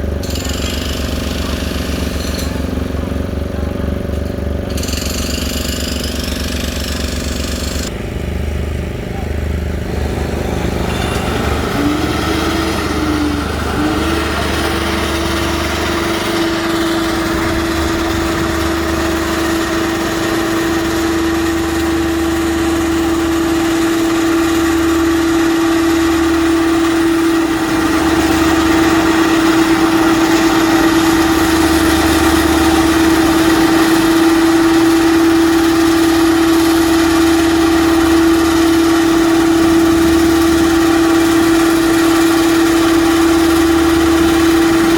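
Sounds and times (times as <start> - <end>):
machine engine whining: 0.0 - 44.9.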